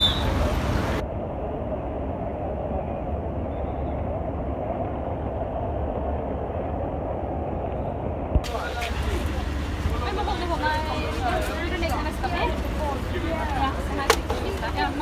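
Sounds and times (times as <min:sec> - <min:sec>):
vehicle engine rumble: 0:00.0 - 0:07.5, 0:08.1 - 0:15.0.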